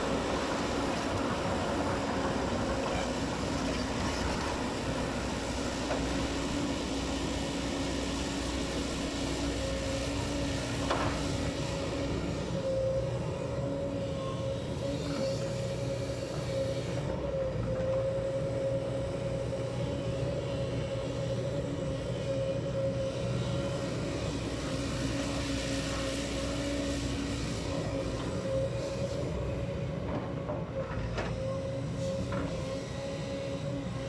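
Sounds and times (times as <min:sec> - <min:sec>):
excavator diesel engine under load: 0:00.0 - 0:34.0
hydraulic whine: 0:00.0 - 0:34.0.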